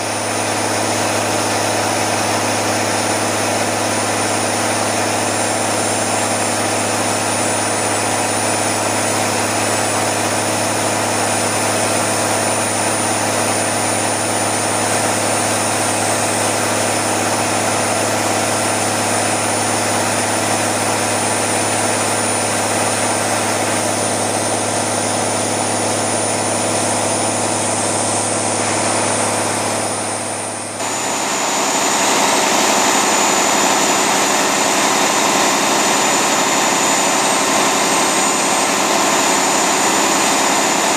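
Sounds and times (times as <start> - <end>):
diesel engine running: 0.0 - 40.9
turbocharger whine: 0.0 - 40.9.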